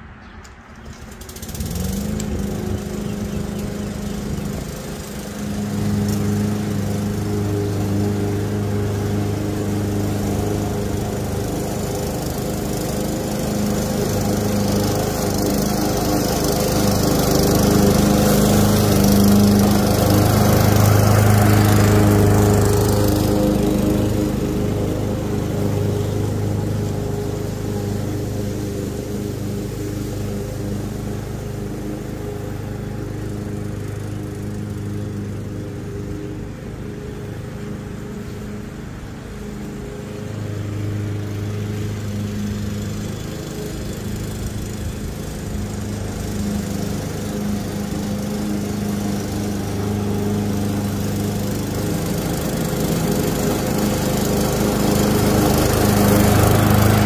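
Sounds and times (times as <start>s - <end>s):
lawn mower running: 0.0s - 57.0s.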